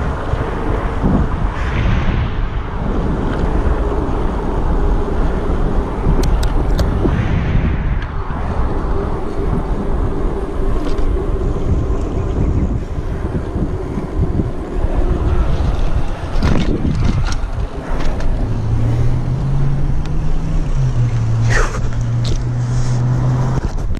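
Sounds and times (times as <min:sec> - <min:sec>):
steady low hum: 0:00.0 - 0:23.0
bike tyres rolling on pavement: 0:00.0 - 0:23.9
wind buffeting microphone: 0:00.0 - 0:23.9.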